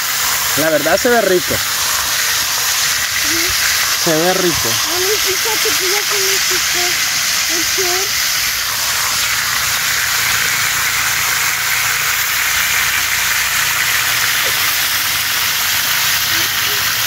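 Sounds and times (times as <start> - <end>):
oil sizzling in a frying pan: 0.0 - 17.0.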